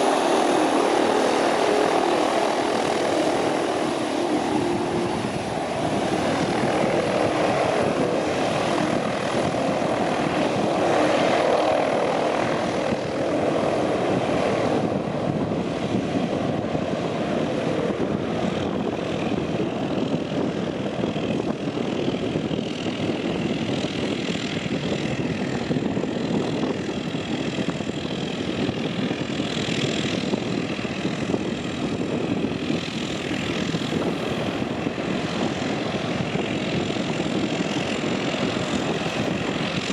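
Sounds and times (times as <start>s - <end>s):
turboprop engines with propeller drone: 0.0s - 39.9s.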